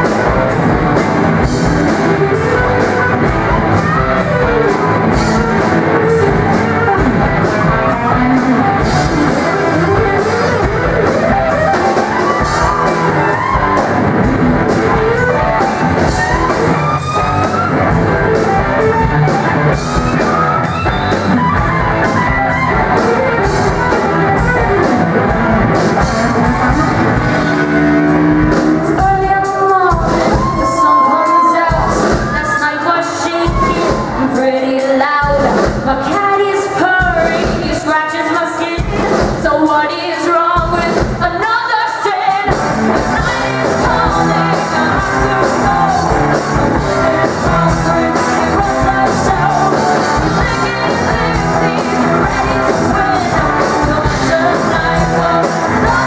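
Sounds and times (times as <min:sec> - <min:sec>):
shouted lead vocal: 0:00.0 - 0:37.4, 0:40.8 - 0:56.0
hard rock band playing: 0:00.0 - 0:56.0.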